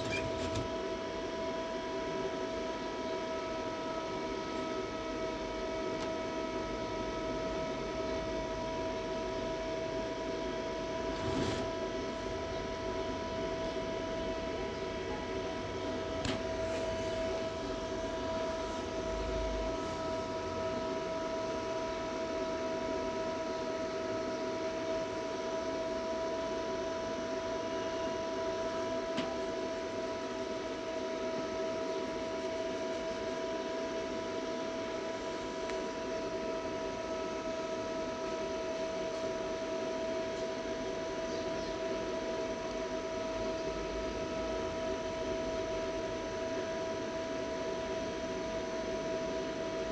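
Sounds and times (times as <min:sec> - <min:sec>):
electrical hum: 0:00.0 - 0:49.9.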